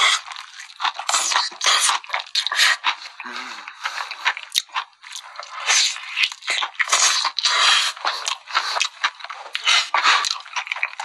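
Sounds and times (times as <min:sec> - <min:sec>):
crunching and chewing food: 0:00.0 - 0:11.0.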